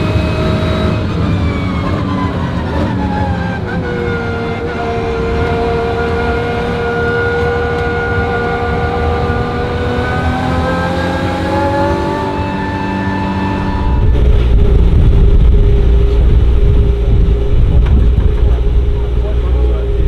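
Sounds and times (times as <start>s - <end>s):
race car engine revving: 0.0s - 20.0s.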